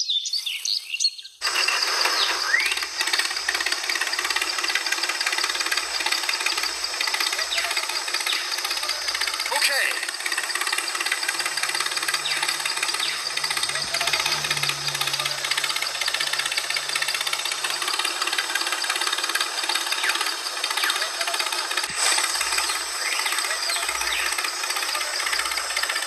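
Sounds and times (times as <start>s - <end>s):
toy tractor engine knocking: 1.4s - 26.0s.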